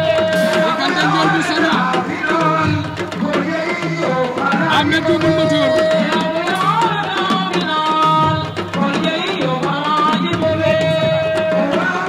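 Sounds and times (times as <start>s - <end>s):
hand drums: 0.0s - 12.0s
person singing: 0.0s - 12.0s.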